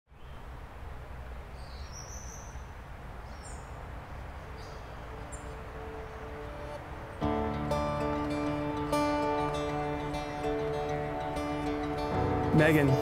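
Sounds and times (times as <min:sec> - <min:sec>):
steady low rumble and hiss: 0:00.2 - 0:13.0.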